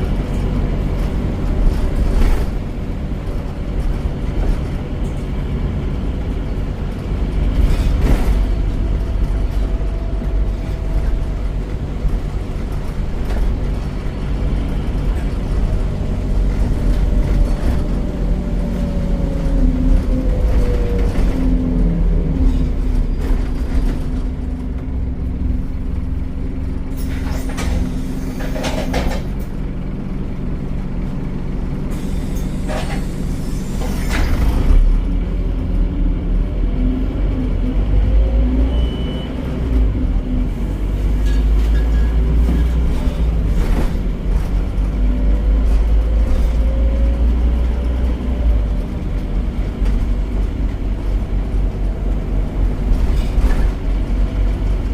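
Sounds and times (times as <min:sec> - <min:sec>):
bus diesel engine droning: 0:00.0 - 0:54.9.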